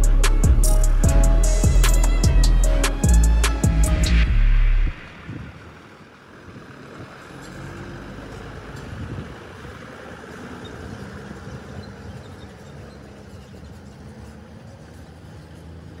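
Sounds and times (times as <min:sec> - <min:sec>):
truck diesel engine driving past: 0:00.0 - 0:16.0.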